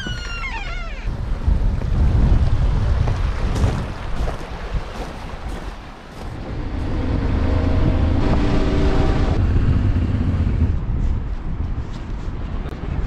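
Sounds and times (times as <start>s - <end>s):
wind rushing over microphone: 1.1s - 13.0s.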